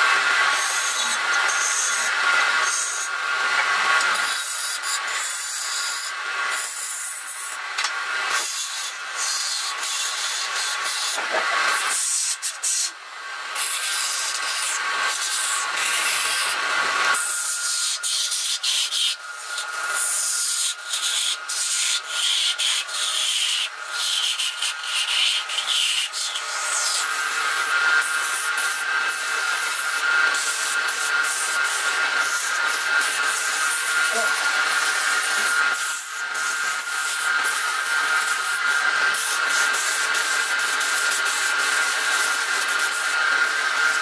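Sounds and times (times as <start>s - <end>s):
lathe whine: 0.0s - 44.0s
sandpaper scraping spinning wood: 0.0s - 44.0s.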